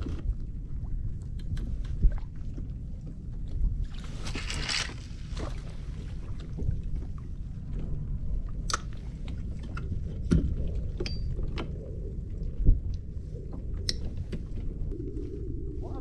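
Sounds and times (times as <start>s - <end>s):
wind and water rumble on microphone: 0.0s - 16.0s.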